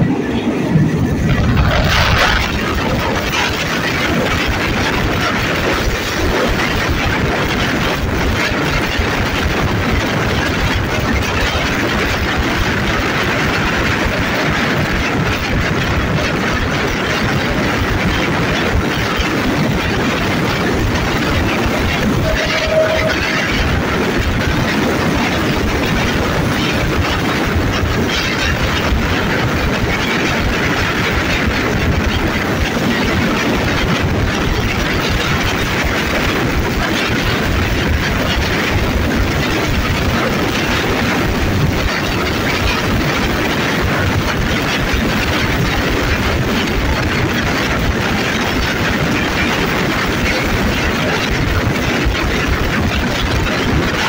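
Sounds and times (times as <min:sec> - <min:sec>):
locomotive engine noise: 0:00.0 - 0:54.0
wheels clattering on rails: 0:00.0 - 0:54.0.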